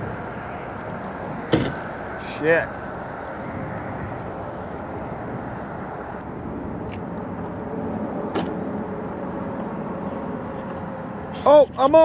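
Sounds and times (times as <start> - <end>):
road traffic rumble overhead: 0.0 - 12.0.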